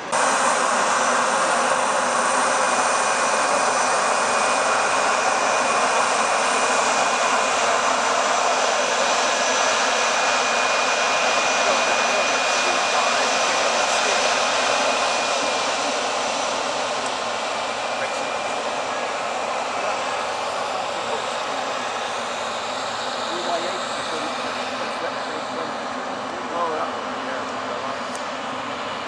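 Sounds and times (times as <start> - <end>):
high engine whine: 0.0 - 29.0
jet engines roaring at takeoff: 0.0 - 29.0.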